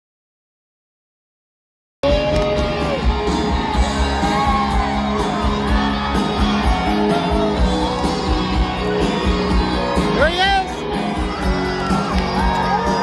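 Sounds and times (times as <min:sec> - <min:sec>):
crowd cheering and whooping: 0:02.0 - 0:13.0
loud music: 0:02.0 - 0:13.0.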